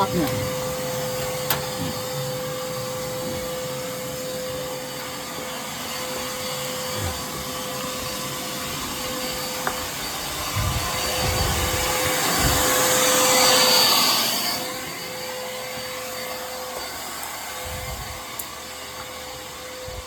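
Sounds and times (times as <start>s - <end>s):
vacuum drawing air through duct: 0.0s - 16.6s, 17.5s - 18.4s.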